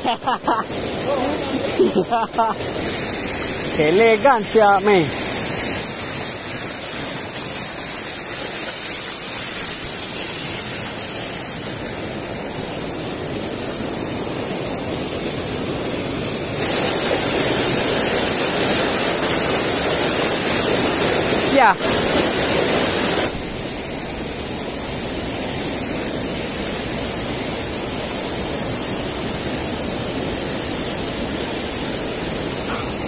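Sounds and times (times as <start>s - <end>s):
stream rushing over rocks: 0.0s - 33.0s.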